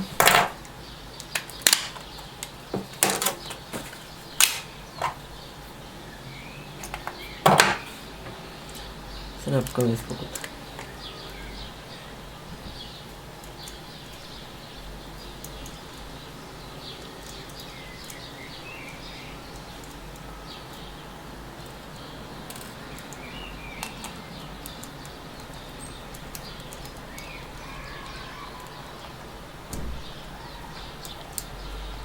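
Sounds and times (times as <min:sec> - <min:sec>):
small birds chirping: 0:00.0 - 0:32.0
steady background hiss: 0:00.0 - 0:32.0.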